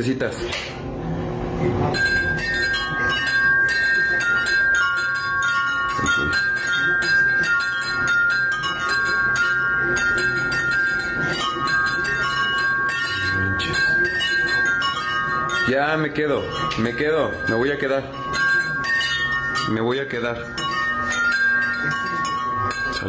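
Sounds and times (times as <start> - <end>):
metal tube wind chime ringing: 1.7 - 23.0.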